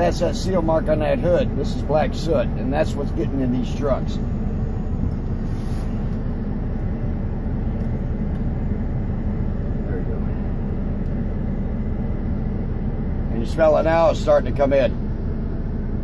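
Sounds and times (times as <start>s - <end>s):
diesel truck engine idling: 0.0s - 16.0s
ventilation fans blowing: 0.0s - 16.0s.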